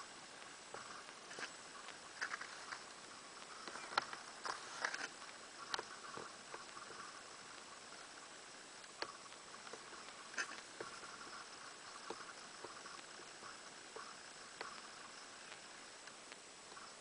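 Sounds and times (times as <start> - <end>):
faint irregular clicks and taps: 0.4 - 8.1, 8.8 - 16.9.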